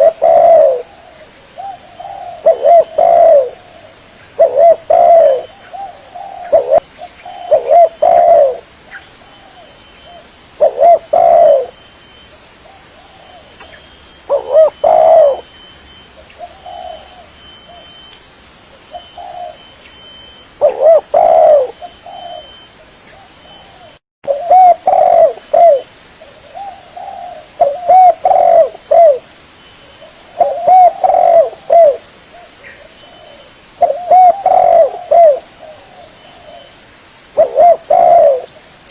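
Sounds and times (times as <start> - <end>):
dove cooing: 0.0 - 18.1, 18.8 - 29.3, 29.9 - 36.7, 37.4 - 38.6.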